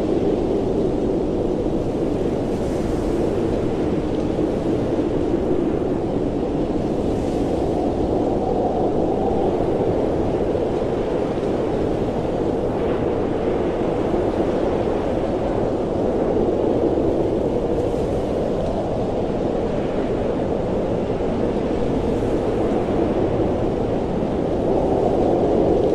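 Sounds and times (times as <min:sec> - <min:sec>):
blizzard wind blowing: 0:00.0 - 0:25.9.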